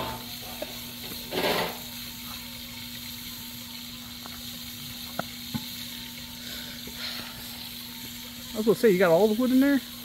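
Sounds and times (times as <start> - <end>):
campfire crackles: 0.0 - 10.0.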